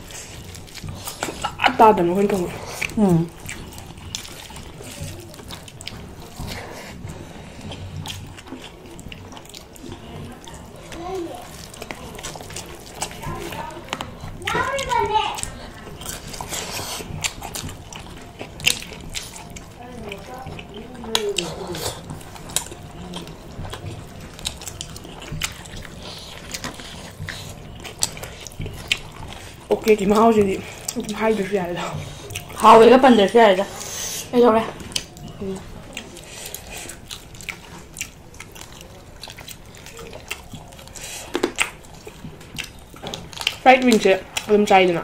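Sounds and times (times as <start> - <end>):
wet chewing and lip-smacking: 0.0 - 45.0.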